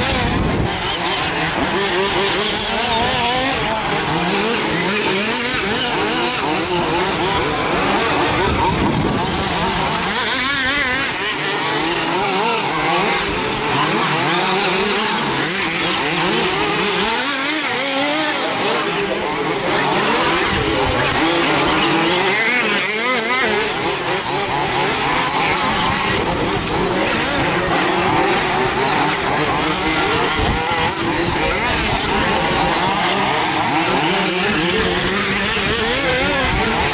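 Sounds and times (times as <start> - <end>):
rc car engines revving: 0.0 - 36.9.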